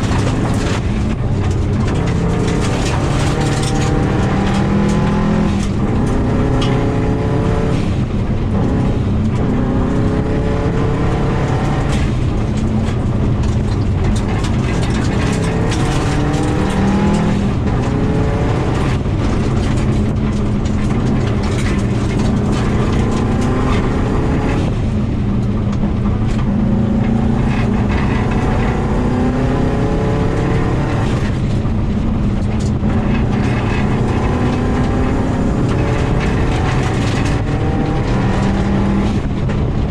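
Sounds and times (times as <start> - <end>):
car engine accelerating through gears: 0.0 - 39.9
tyres rumbling on gravel: 0.0 - 39.9.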